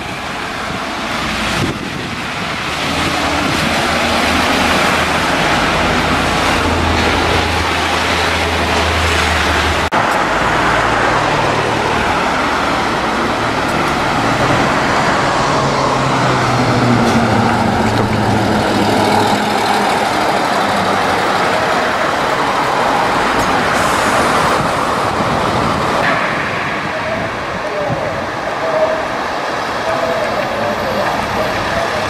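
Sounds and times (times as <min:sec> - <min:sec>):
bus diesel engine passing: 0:00.0 - 0:32.0
road traffic hum: 0:00.0 - 0:32.0.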